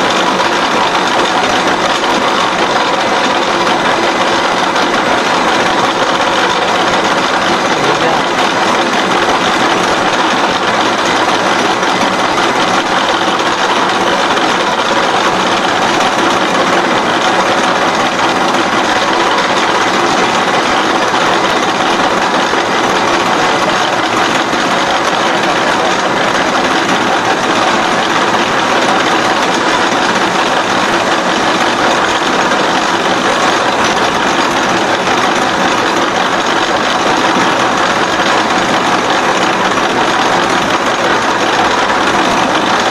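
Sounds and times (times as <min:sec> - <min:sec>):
milling machine cutting steel: 0:00.0 - 0:42.9.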